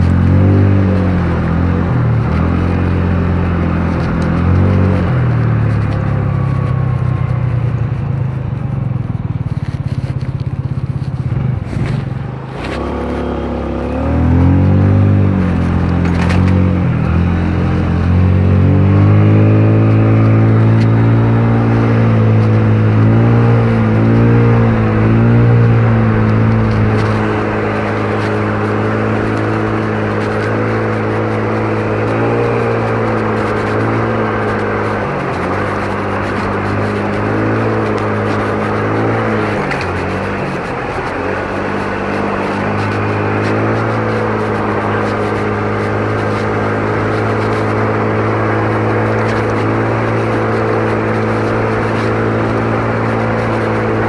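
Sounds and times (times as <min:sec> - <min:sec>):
motor scooter engine running: 0:00.0 - 0:54.0.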